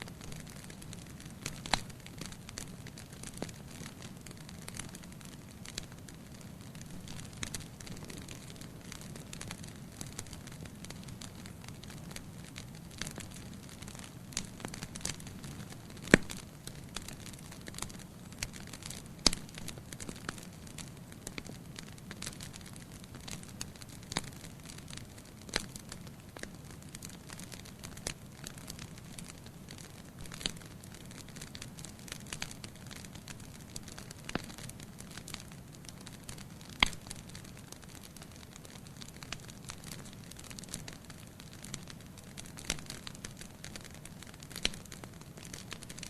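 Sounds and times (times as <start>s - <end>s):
fire crackling and popping: 0.0s - 46.0s
low noise of burning logs: 0.0s - 46.0s.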